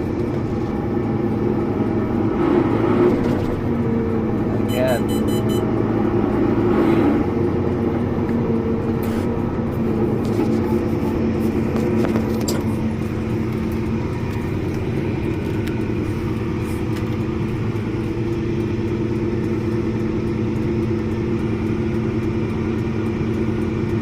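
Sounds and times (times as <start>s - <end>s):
heavy vehicle engine from cab: 0.0s - 24.0s.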